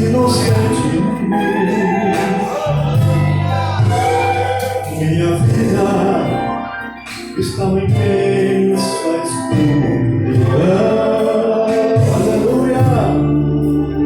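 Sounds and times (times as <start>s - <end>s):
instrumental accompaniment: 0.0s - 14.0s
man singing: 0.0s - 14.0s.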